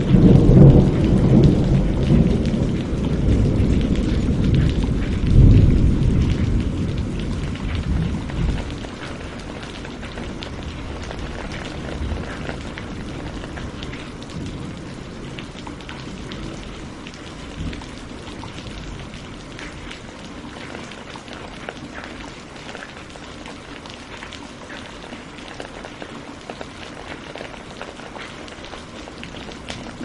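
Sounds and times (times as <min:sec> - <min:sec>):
raindrops striking close by: 0:00.0 - 0:30.0
steady rainfall: 0:00.0 - 0:30.0.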